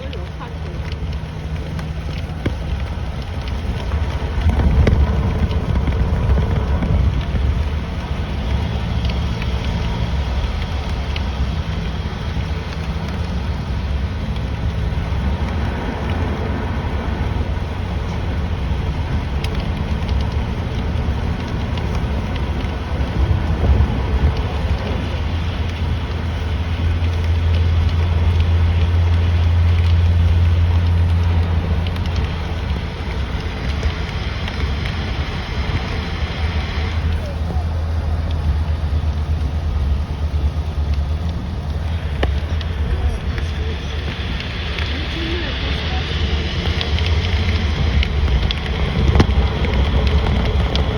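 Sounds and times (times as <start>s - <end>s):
car engine and tyres rumbling: 0.0s - 50.9s
rain hissing on wet road: 0.0s - 50.9s.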